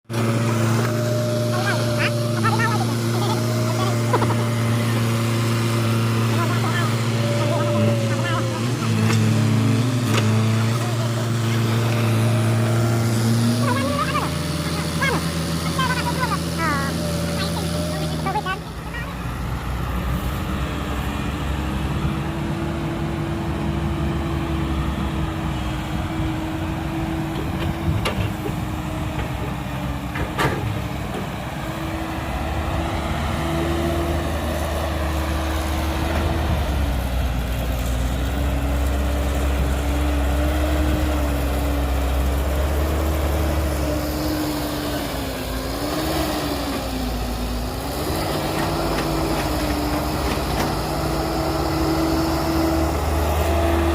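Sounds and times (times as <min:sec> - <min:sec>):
heavy diesel engine running: 0:00.0 - 0:53.9
wavering engine whine: 0:00.0 - 0:53.9.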